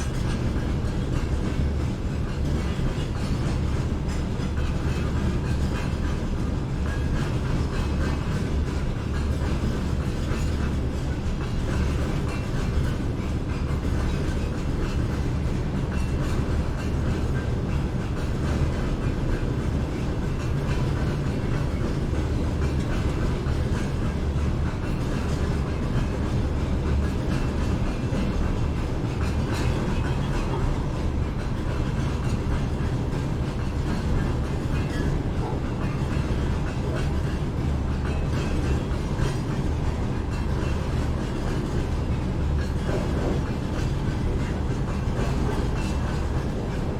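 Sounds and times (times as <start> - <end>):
train rumbling past: 0.0 - 46.9.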